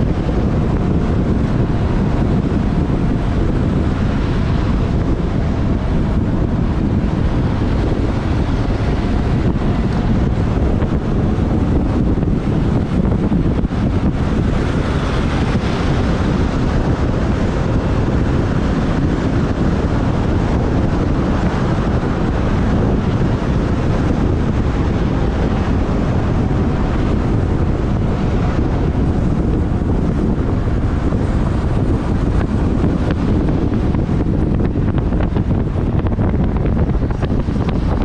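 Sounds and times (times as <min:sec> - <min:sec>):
road noise: 0:00.0 - 0:38.0
wind rushing over microphone: 0:00.0 - 0:38.0.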